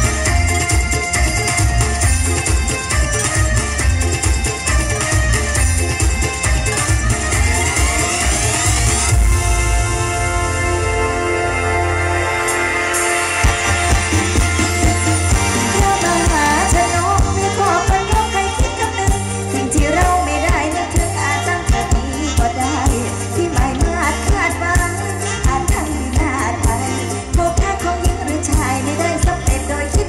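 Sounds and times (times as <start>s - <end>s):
amplified band with bass beat: 0.0s - 30.0s.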